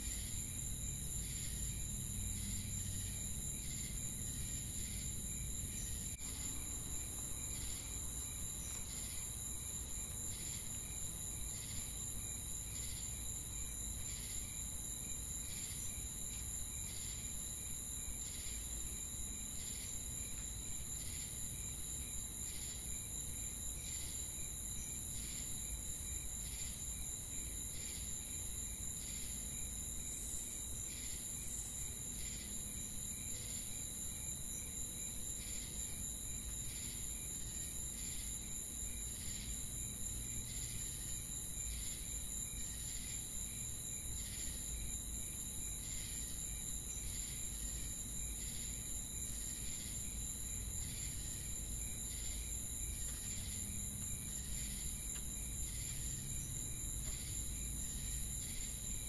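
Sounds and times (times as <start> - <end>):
crickets trilling: 0.0 - 59.0
pulsed cricket chirp: 0.0 - 59.0.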